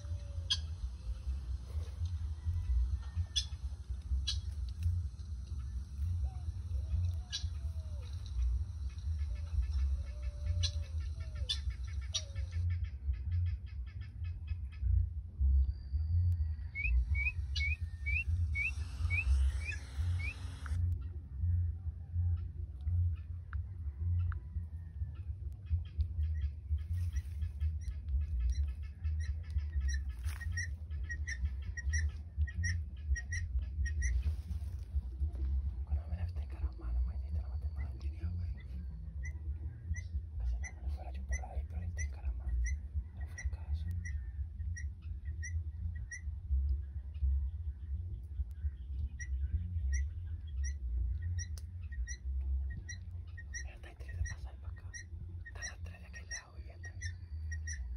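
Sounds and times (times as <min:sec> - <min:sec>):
guineafowl calling: 0:00.0 - 0:57.9
low rumble: 0:00.0 - 0:57.9.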